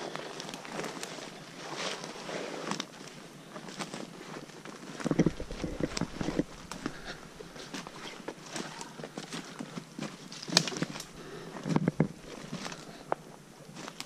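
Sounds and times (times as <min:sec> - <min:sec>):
footsteps crunching dry leaves: 0:00.0 - 0:14.0.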